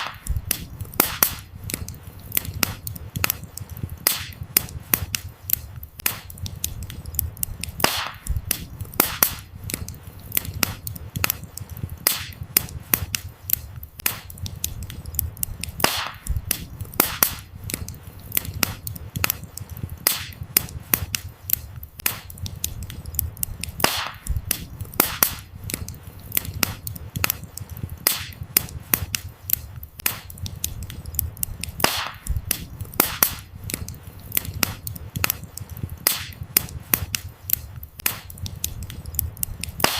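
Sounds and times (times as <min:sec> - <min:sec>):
burning wood popping: 0:00.0 - 0:39.9
campfire crackling: 0:00.0 - 0:39.9.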